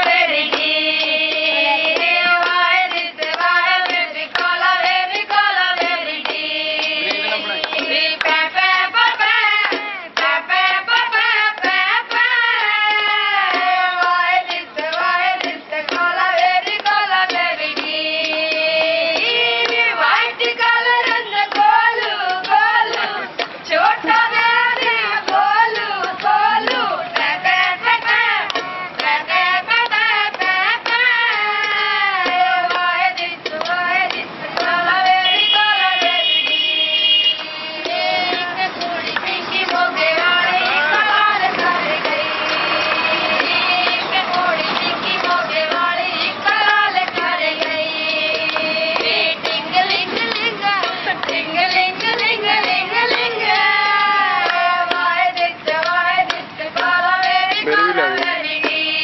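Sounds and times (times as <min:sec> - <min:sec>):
hand clapping: 0:00.0 - 0:36.7, 0:37.3 - 0:59.0
women singing unaccompanied: 0:00.0 - 0:59.0.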